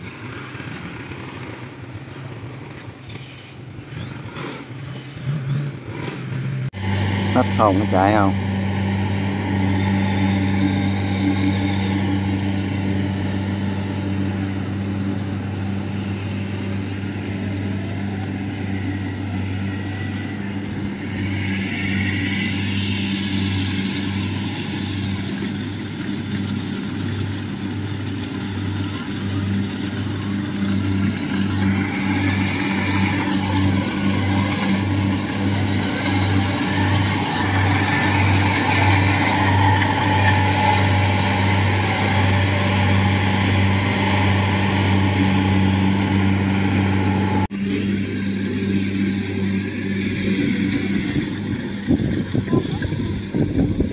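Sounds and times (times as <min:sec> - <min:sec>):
harvester diesel engine humming: 0:06.4 - 0:53.9.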